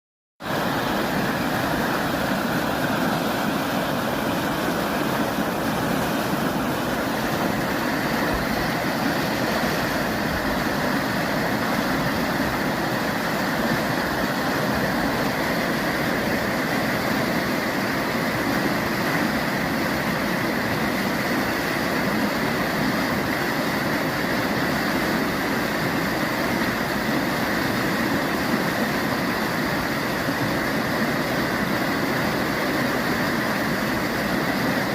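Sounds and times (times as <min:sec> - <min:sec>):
sea surf roaring: 0:00.4 - 0:34.9.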